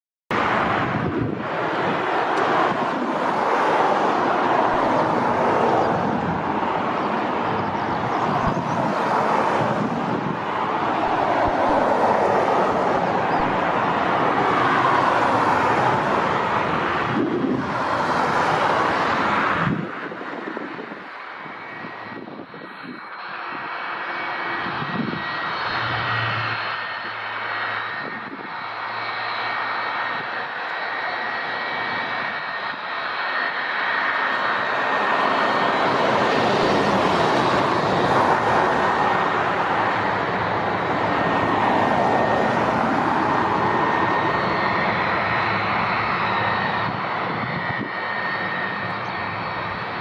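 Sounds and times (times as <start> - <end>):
jet engine whine: 0.3 - 50.0
jet engines roaring: 0.3 - 50.0.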